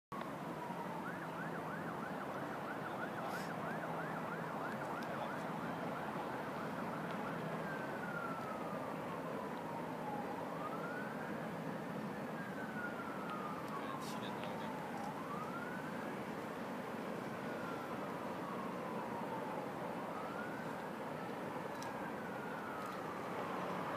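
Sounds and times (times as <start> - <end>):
city hum: 0.1 - 23.9
emergency siren yelping and wailing: 0.1 - 23.9.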